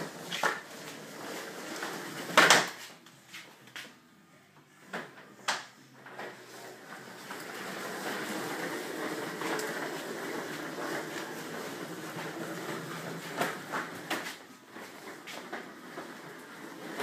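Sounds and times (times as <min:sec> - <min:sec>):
walker wheels rumbling on wood floor: 0:00.0 - 0:03.9, 0:06.0 - 0:17.0.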